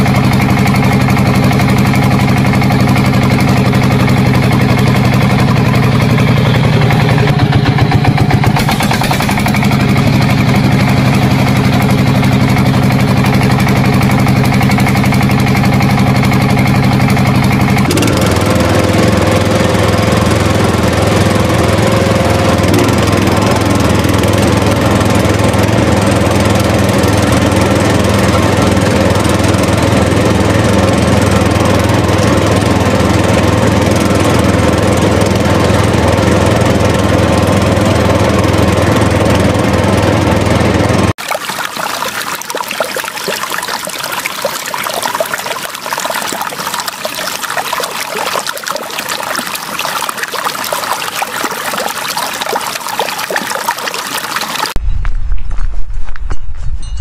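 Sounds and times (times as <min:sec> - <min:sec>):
engine running: 0:00.0 - 0:56.8.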